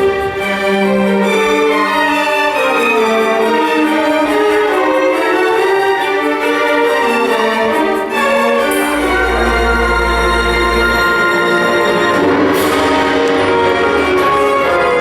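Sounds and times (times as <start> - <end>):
orchestral string melody: 0.0 - 15.0.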